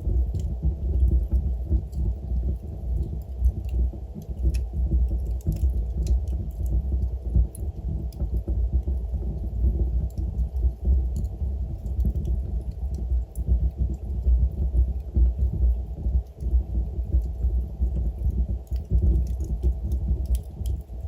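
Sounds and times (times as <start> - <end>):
burning logs crackling: 0.0 - 21.0
fire flames rumbling: 0.0 - 21.0.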